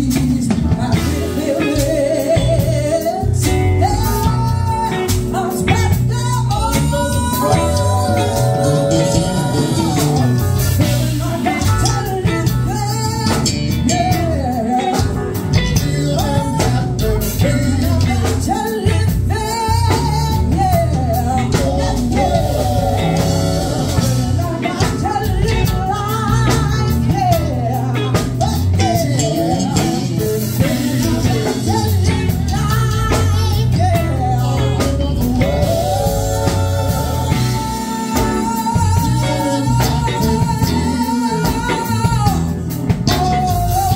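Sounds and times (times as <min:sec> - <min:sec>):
band music with guitar and bass: 0:00.0 - 0:43.9
person singing live: 0:00.0 - 0:43.9.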